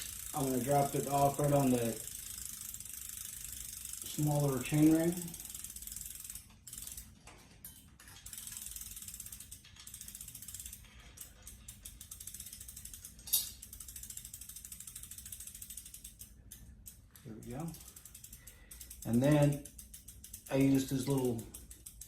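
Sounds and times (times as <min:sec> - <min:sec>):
bicycle freewheel ticking: 0:00.0 - 0:22.0.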